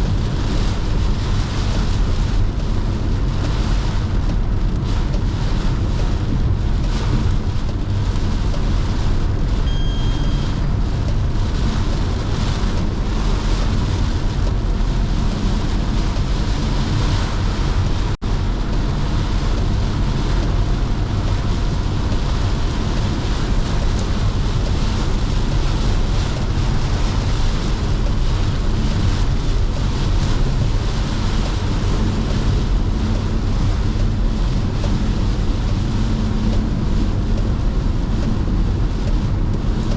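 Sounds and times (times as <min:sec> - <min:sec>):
heavy rain: 0:00.0 - 0:39.9
low car rumble: 0:00.0 - 0:39.9.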